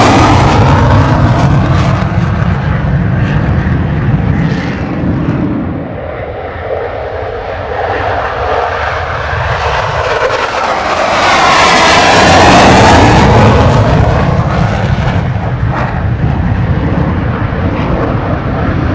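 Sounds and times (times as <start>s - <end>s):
jet engine roaring: 0.0s - 18.9s
jet passing with phasing sound: 0.0s - 18.9s.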